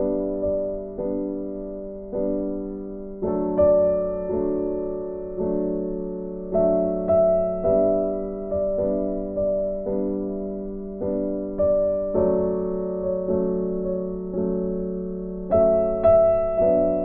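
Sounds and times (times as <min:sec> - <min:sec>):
slow gentle piano chords: 0:00.0 - 0:17.0.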